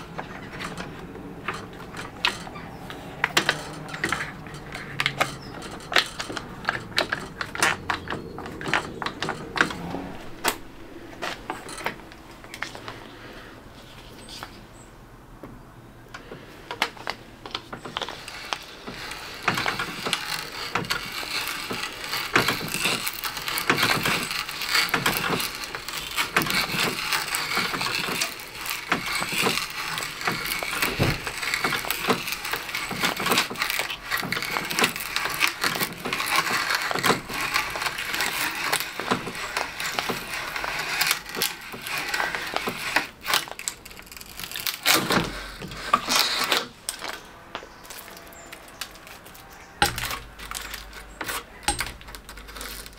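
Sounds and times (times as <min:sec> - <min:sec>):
auger bit boring through wood: 0:00.0 - 0:13.0, 0:16.2 - 0:52.9.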